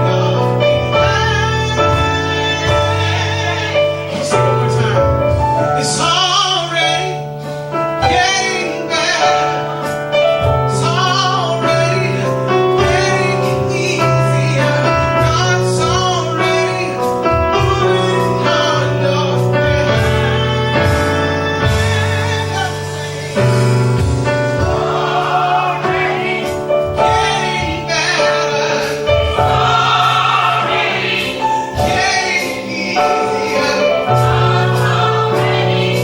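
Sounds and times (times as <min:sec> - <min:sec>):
gospel choir singing: 0:00.0 - 0:36.0
instrumental accompaniment: 0:00.0 - 0:36.0.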